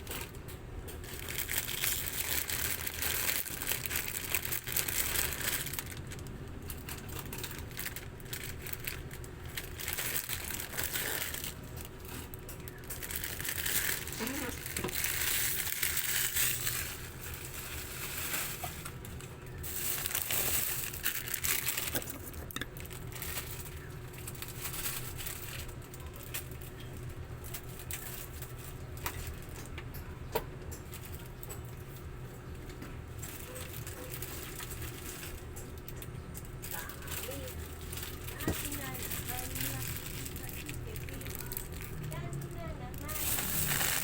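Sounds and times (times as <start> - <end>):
plastic packaging crinkling: 0.0 - 29.8, 30.7 - 44.0.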